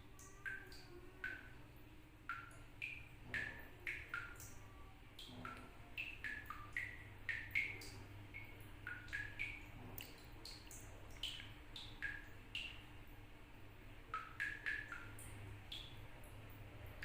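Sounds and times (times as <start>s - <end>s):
water drops plinking from tap: 0.2s - 1.6s, 2.3s - 12.9s, 14.1s - 16.0s.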